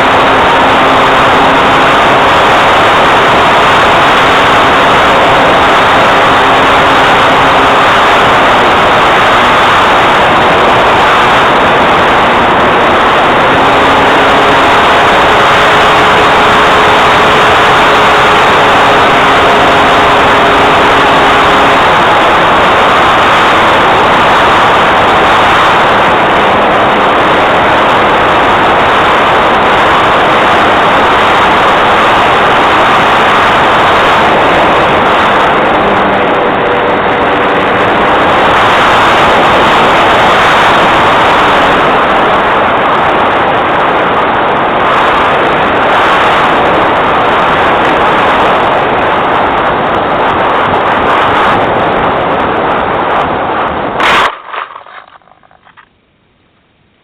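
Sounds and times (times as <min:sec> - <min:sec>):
light aircraft engine drone: 0:00.0 - 0:54.3.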